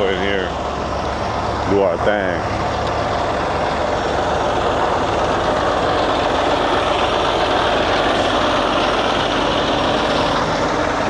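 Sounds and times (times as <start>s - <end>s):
diesel truck engines idling: 0.0s - 11.0s.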